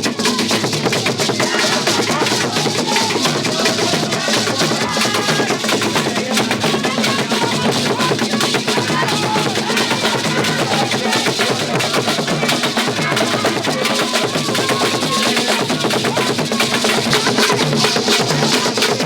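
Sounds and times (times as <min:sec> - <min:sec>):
drums playing fast rhythm: 0:00.0 - 0:19.0.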